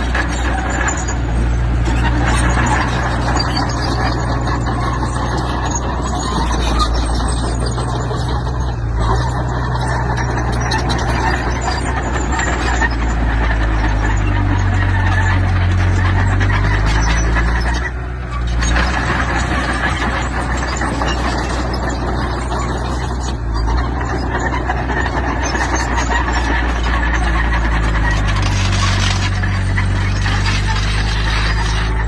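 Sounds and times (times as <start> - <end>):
heavy diesel machinery engine: 0.0 - 32.0.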